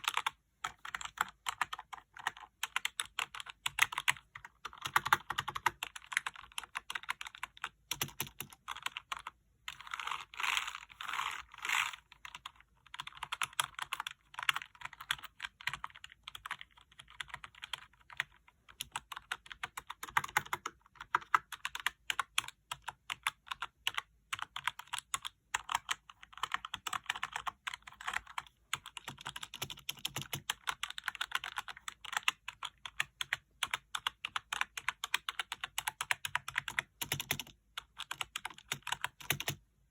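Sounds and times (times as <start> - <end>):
keyboard typing: 0.0 - 39.7.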